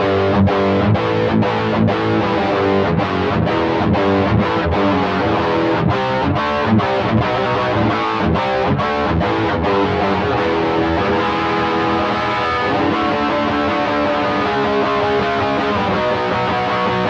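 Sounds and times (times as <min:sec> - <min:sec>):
distorted electric guitar riff: 0:00.0 - 0:17.0.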